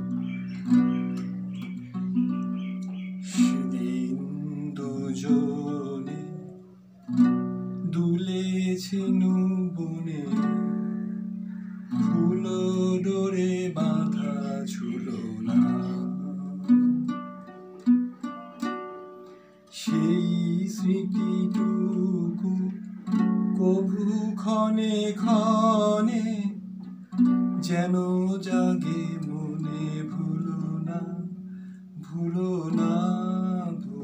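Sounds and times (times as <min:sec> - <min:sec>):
classical guitar fingerstyle: 0:00.0 - 0:34.0.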